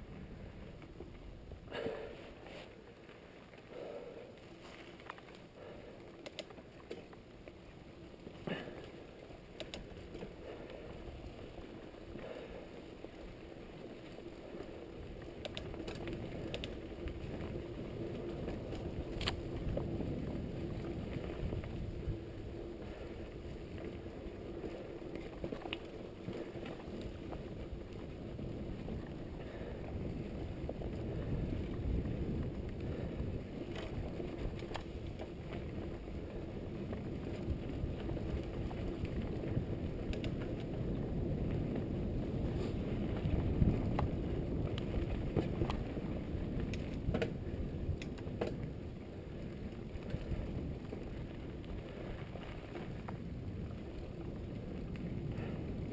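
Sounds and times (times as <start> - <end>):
bike tyres rolling: 0.0 - 55.9
bike clicks and rattles: 0.1 - 55.9.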